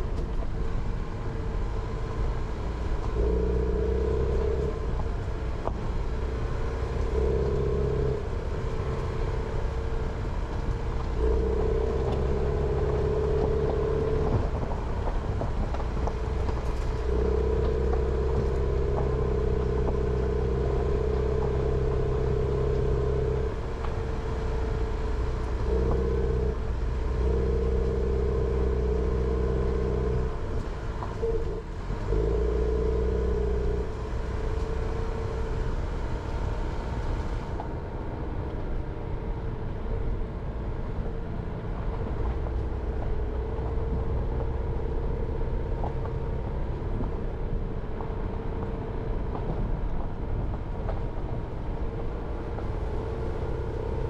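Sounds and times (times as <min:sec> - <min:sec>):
car engine running: 0:00.0 - 0:54.0
tyre and road noise: 0:00.0 - 0:54.0.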